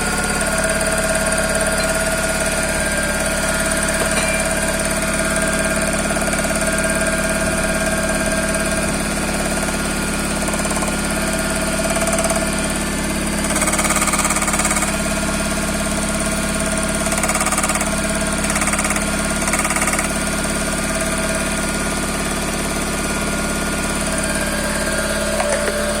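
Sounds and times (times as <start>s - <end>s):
car engine idling with knock: 0.0s - 26.0s
engine throttle blips: 0.0s - 26.0s.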